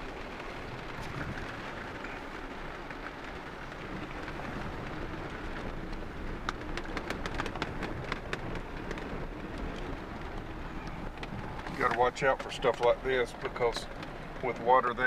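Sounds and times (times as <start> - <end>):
water splashing around vehicle: 0.0 - 15.0.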